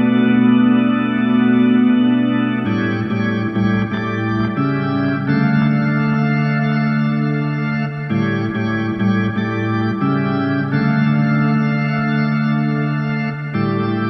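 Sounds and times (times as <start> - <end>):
slow organ chorale: 0.0 - 14.0.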